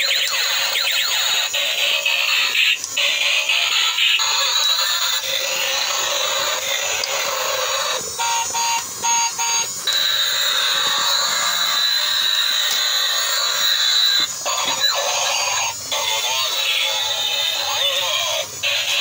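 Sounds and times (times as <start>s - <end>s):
high-pitched electronic whine: 0.0s - 19.0s
toy harsh buzzing noise: 0.0s - 19.0s.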